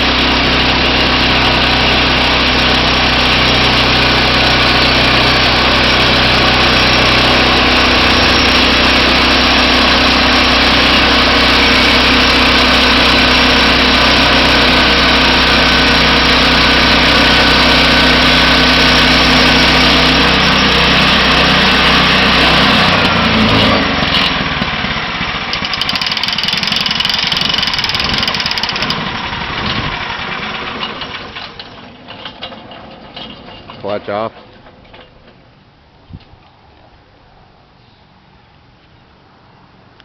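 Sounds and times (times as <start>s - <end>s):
sawmill engine running: 0.0s - 35.8s.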